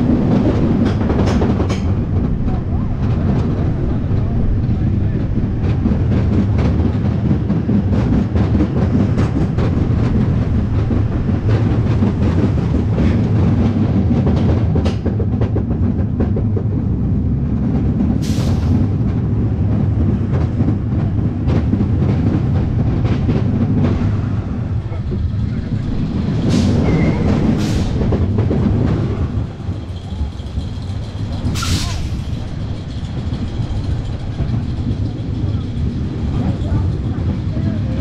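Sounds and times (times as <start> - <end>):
clacks at track joints: 0.0 - 17.0, 18.8 - 38.0
roller coaster wheels rumbling: 0.0 - 38.0.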